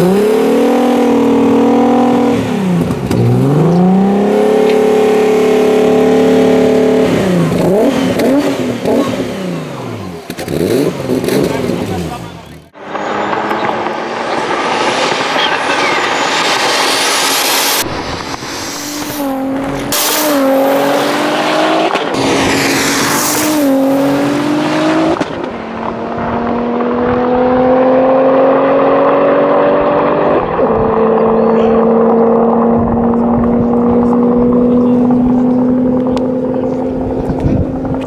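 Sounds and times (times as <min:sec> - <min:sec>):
car engines accelerating hard: 0:00.0 - 0:38.0.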